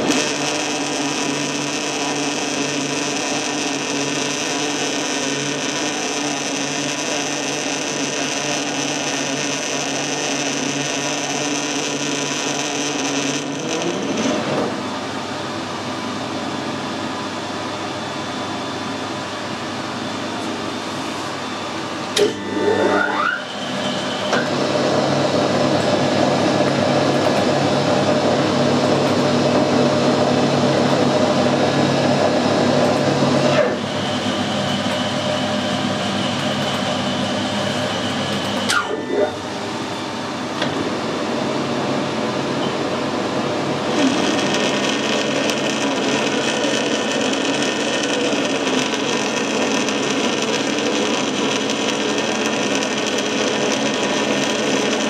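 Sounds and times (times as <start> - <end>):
metal lathe whining: 0.0 - 14.8, 21.3 - 40.8, 42.6 - 55.0.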